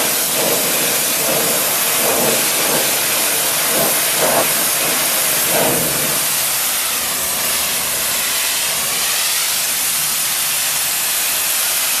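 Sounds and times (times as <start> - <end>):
water jet hissing on metal: 0.0 - 12.0.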